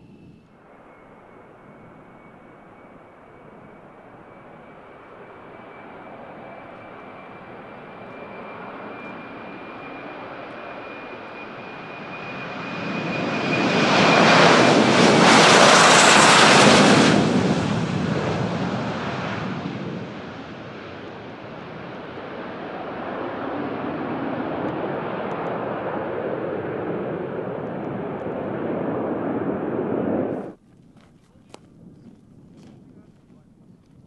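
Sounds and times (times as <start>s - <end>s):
high engine whine: 0.0s - 30.6s
jet engines flyby: 0.0s - 30.6s.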